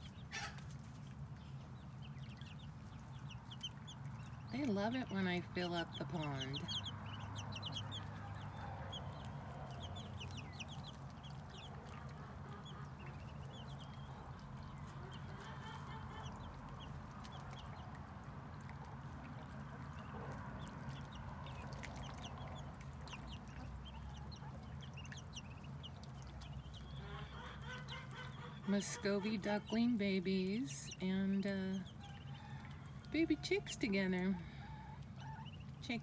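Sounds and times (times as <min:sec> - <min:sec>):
ducklings and chicks peeping: 0:00.0 - 0:36.0.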